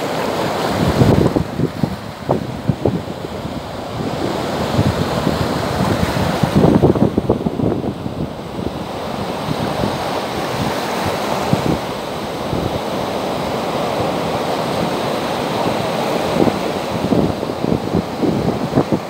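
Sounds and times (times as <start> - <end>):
waves breaking on sandy beach: 0.0 - 19.0
wind buffeting microphone: 0.0 - 19.0.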